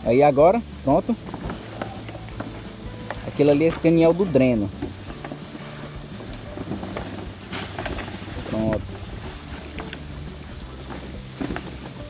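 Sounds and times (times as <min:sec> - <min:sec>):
plastic liner rustling: 0:00.8 - 0:12.0.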